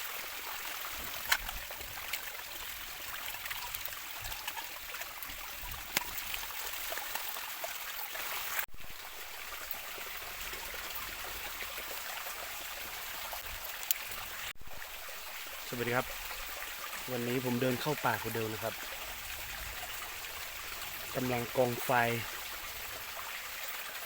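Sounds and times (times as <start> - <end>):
rain: 0.0 - 24.0.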